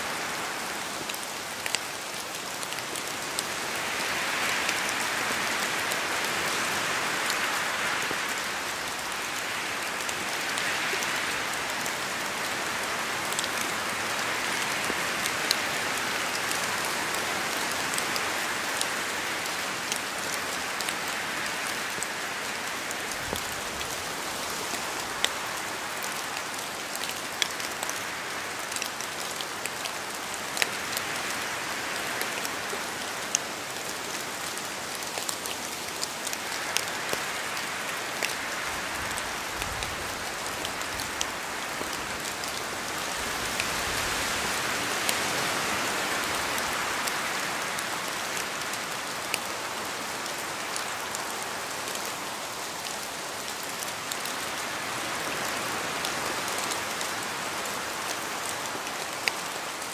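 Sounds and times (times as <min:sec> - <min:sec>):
steady rain falling: 0:00.0 - 0:59.9
raindrops ticking on a surface: 0:00.8 - 0:59.9.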